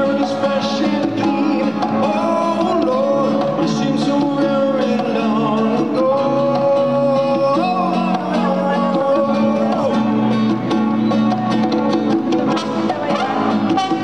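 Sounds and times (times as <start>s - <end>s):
live band guitar music: 0.0s - 14.0s.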